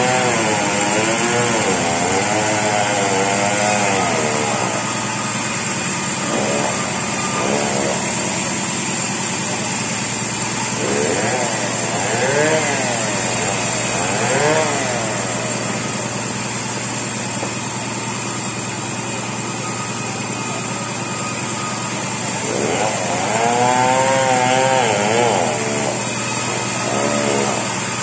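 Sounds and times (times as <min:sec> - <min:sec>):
chainsaw engine running: 0:00.0 - 0:28.0.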